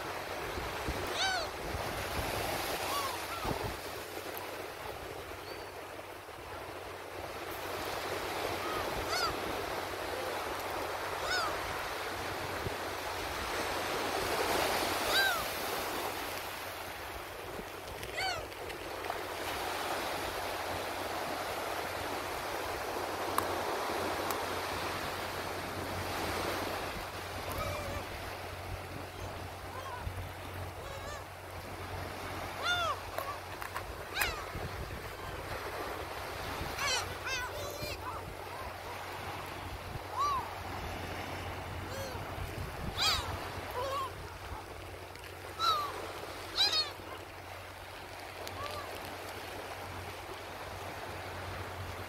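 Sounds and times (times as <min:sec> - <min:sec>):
waves washing on shore: 0:00.0 - 0:52.0
gulls calling: 0:00.2 - 0:25.2, 0:25.8 - 0:49.3.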